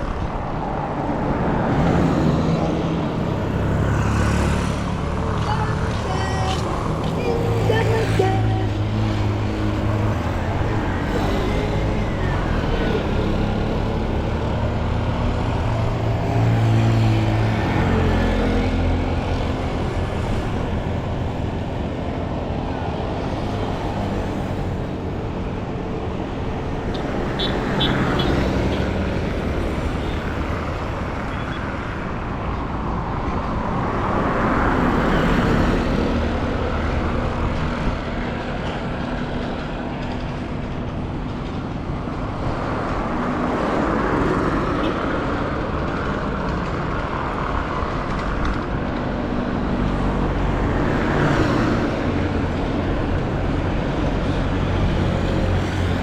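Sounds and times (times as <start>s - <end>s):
traffic engines and tyre noise: 0.0s - 56.0s
vehicles passing close by: 0.0s - 56.0s.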